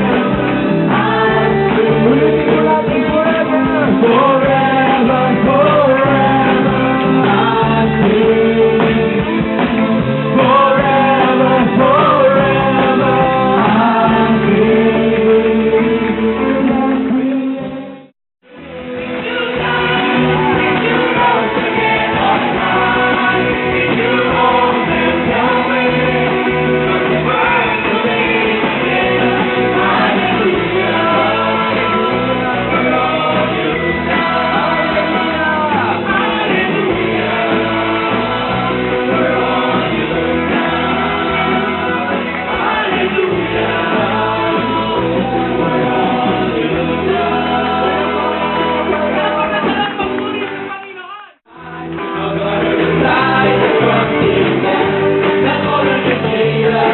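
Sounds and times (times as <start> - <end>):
people singing: 0.0 - 18.0, 19.1 - 50.6, 51.5 - 56.9
band playing worship song: 0.0 - 56.9.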